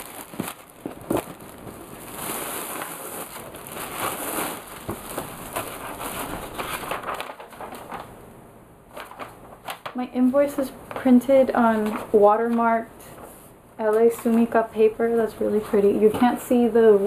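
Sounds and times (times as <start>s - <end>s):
plastic wrapping crinkling: 0.0s - 8.2s, 8.9s - 14.6s.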